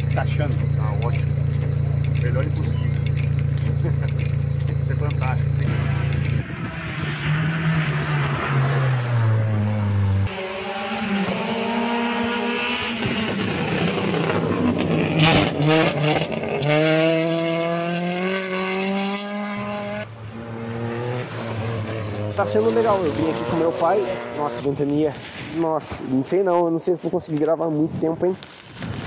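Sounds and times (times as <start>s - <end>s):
rally car engines accelerating: 0.0s - 26.2s.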